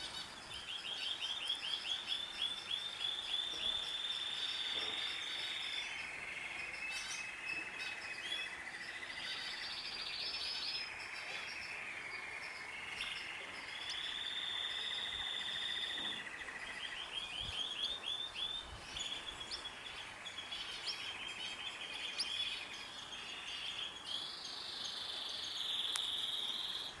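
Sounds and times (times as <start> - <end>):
birds and insects trilling: 0.0 - 27.0.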